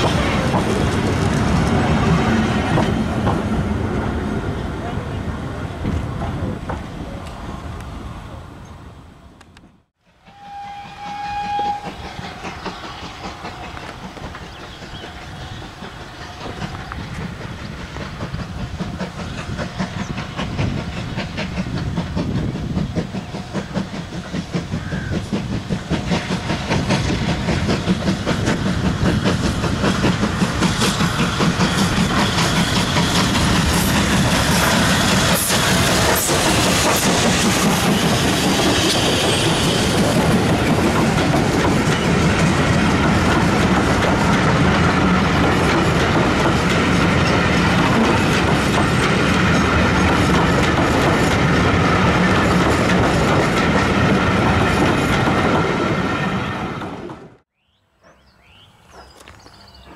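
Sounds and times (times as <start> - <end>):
train wheels clattering over rail joints: 0.0 - 3.8, 11.3 - 57.4
steam locomotives running: 0.0 - 59.9.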